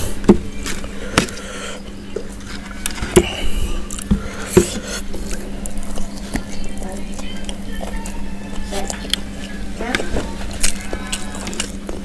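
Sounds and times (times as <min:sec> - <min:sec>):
faint steady hum: 0:00.0 - 0:12.0
wet chewing: 0:00.0 - 0:12.0.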